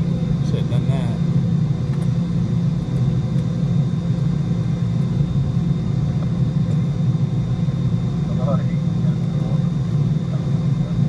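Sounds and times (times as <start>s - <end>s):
aircraft cabin rumble: 0.0s - 11.0s
high engine whine: 0.0s - 11.0s.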